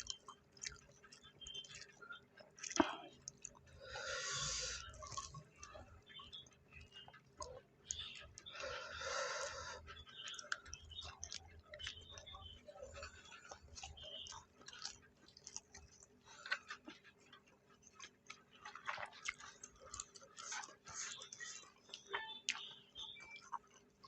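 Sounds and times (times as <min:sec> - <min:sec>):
people chewing: 0:00.0 - 0:24.0.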